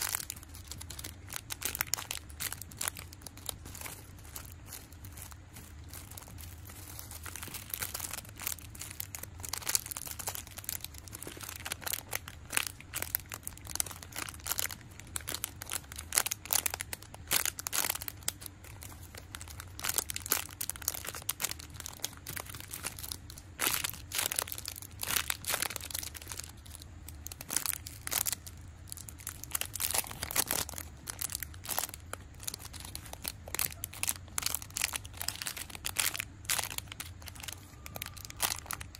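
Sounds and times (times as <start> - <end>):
plastic bags crinkling: 0.0 - 38.9.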